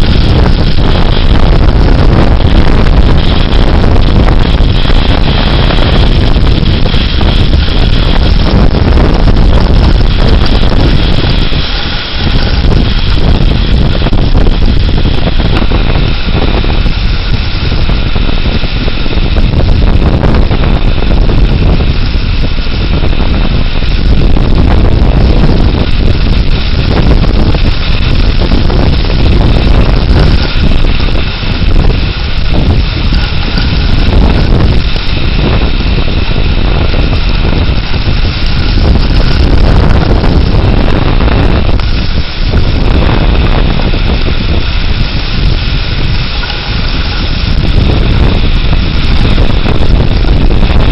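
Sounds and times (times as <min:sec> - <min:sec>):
strong wind buffeting microphone: 0:00.0 - 0:50.9.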